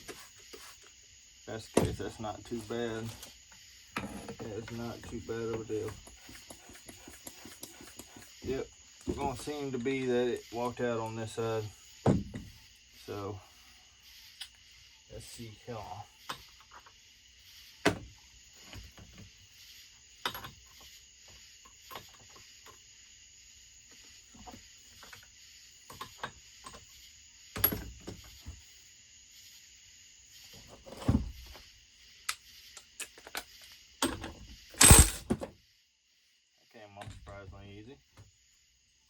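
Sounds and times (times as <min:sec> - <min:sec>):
faint hiss: 0:00.0 - 0:39.0.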